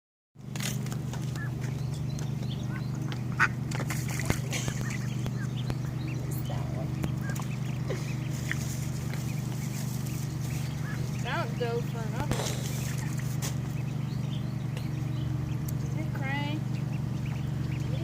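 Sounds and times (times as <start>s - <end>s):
birds calling: 0.4s - 18.0s
steady low hum: 0.4s - 18.0s.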